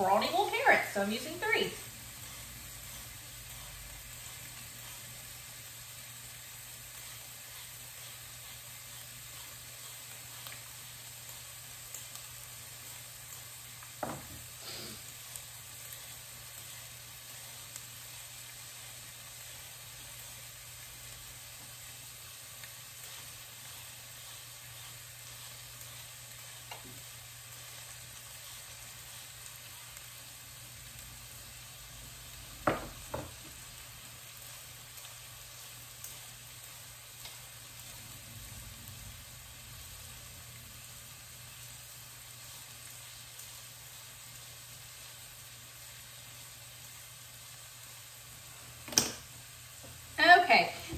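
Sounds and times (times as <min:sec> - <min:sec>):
vegetables sizzling in a pot: 0:00.0 - 0:50.9.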